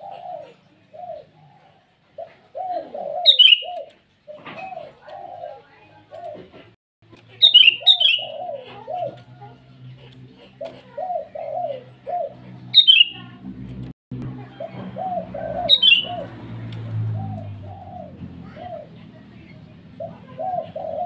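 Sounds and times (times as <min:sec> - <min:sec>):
arched cooing notes: 0:00.0 - 0:06.6, 0:07.3 - 0:13.4, 0:14.2 - 0:21.0.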